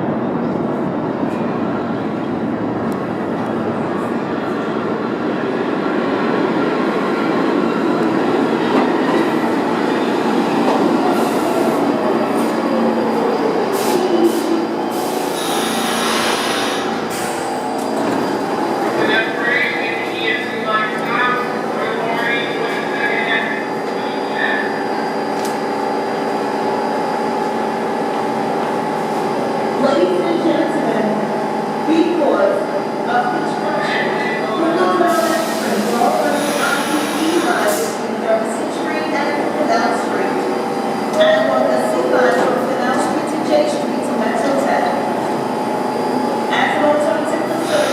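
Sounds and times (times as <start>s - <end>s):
subway train rumbling on rails: 0.0s - 47.9s.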